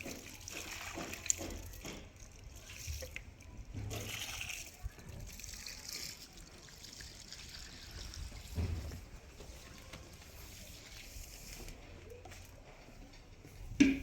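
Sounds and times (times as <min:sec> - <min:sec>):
faint trickling water: 0:00.0 - 0:14.0.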